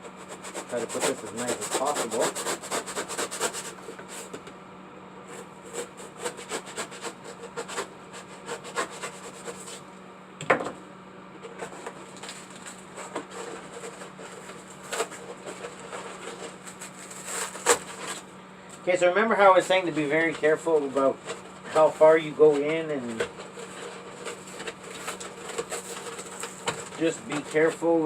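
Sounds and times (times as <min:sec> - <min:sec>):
styrofoam rubbing and scraping: 0:00.0 - 0:04.4, 0:05.2 - 0:09.9, 0:11.4 - 0:18.3, 0:19.4 - 0:28.0.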